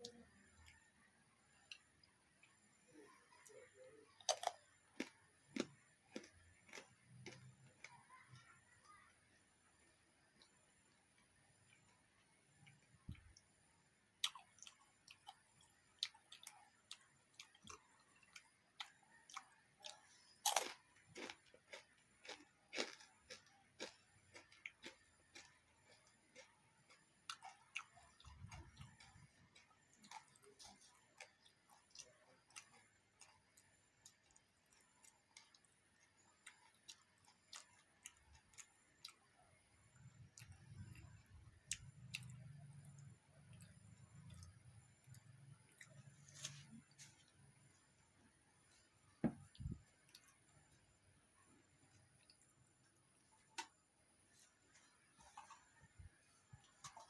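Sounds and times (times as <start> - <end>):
food being bitten and chewed: 0.0 - 9.1, 9.7 - 57.0.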